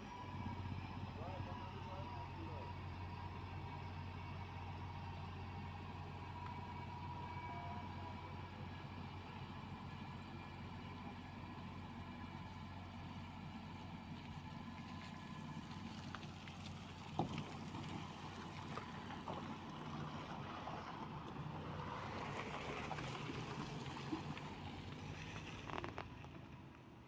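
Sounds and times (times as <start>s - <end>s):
diesel engine of heavy machinery: 0.0s - 27.0s.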